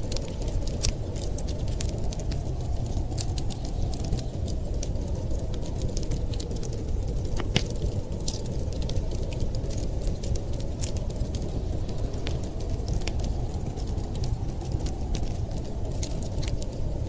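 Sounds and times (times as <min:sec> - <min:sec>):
low rumble: 0:00.0 - 0:17.0
wood fire crackling and popping: 0:00.0 - 0:17.0.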